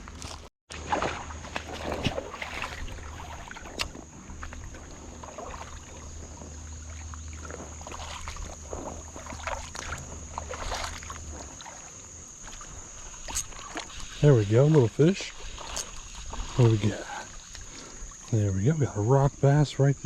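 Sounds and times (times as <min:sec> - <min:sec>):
creek water splashing: 0:00.2 - 0:19.6.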